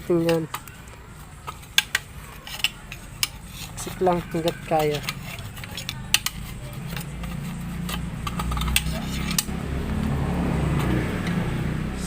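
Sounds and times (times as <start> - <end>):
steel wool clinking and scraping: 0.0 - 11.7.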